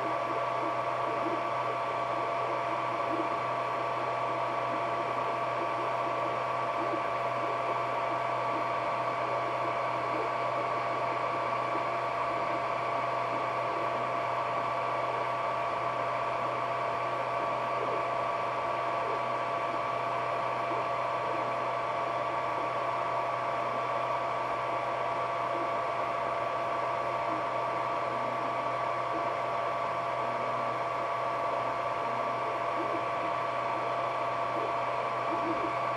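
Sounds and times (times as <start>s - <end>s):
cooling fans whirring: 0.0s - 35.9s.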